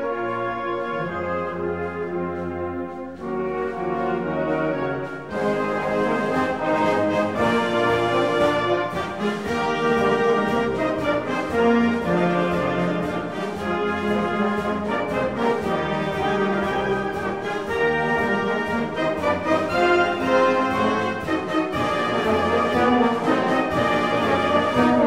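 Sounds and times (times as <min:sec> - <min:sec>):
orchestral music with brass: 0:00.0 - 0:25.0.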